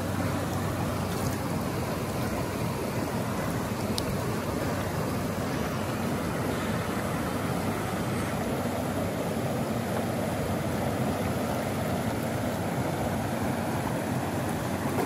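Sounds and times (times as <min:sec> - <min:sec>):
river rapids and waterfall rushing: 0:00.0 - 0:15.0.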